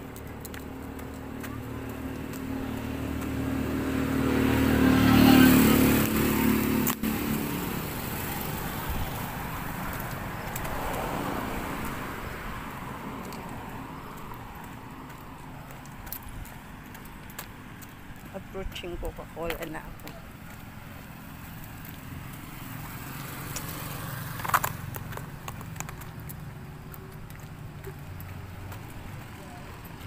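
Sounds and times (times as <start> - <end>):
vehicle passing by: 0.0 - 30.0.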